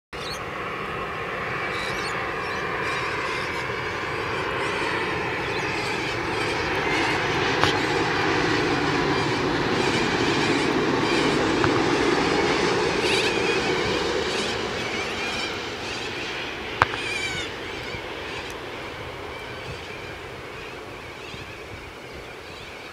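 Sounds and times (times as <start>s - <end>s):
jet engines whining and rushing: 0.1s - 22.9s.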